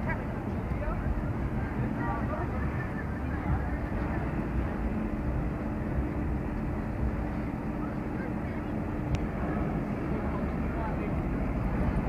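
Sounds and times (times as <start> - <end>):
bus engine droning: 0.0 - 12.0
street traffic rumble: 0.0 - 12.0.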